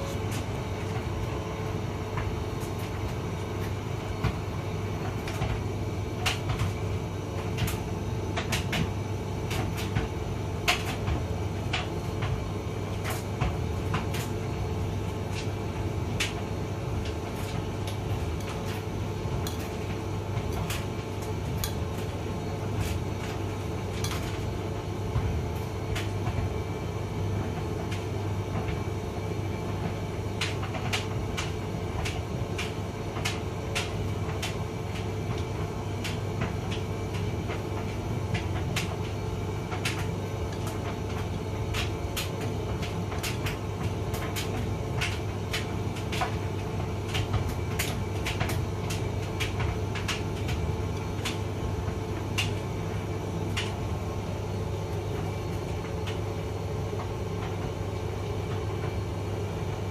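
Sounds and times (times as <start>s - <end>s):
tumble dryer humming: 0.0s - 59.9s.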